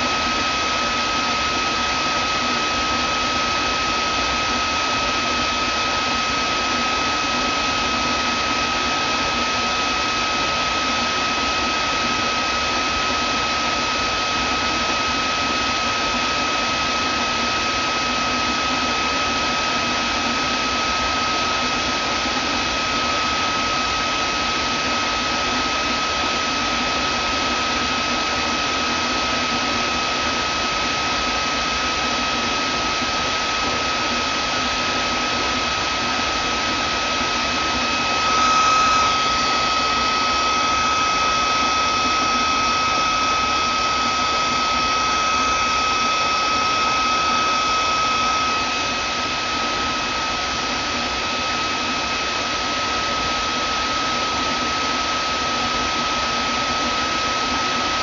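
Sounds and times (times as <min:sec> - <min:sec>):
vacuum cleaner motor whining: 0:00.0 - 0:58.0.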